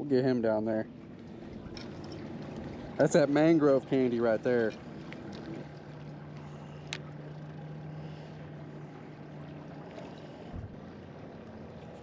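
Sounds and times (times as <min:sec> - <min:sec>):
water: 0:00.0 - 0:12.0
wind: 0:00.0 - 0:12.0
steady low hum: 0:00.3 - 0:12.0.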